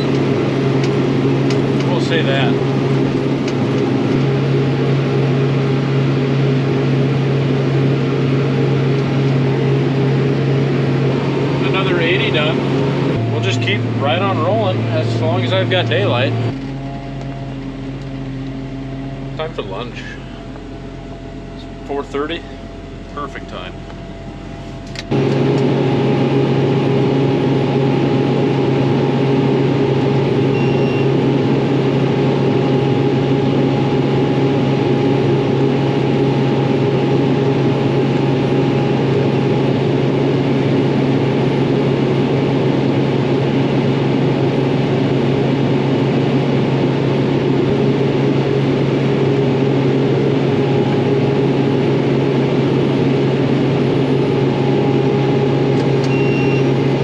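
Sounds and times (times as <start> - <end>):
farm vehicle engine drone: 0.0 - 57.0.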